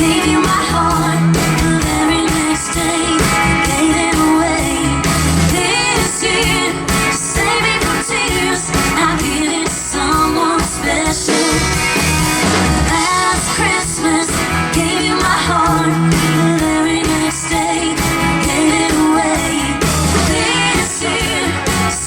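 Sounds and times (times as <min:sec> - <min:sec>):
woman singing through a pa: 0:00.0 - 0:11.5, 0:12.9 - 0:22.0
amplified guitar and bass: 0:00.0 - 0:22.0.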